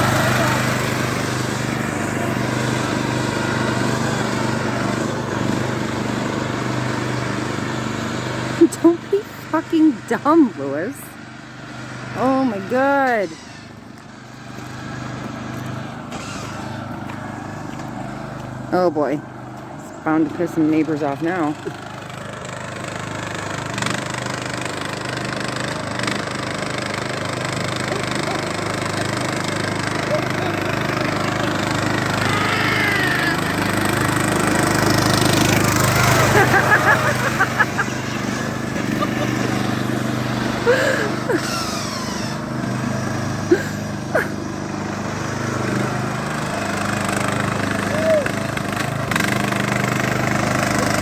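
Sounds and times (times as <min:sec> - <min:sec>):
riding lawnmower engine running: 0:00.0 - 0:51.0.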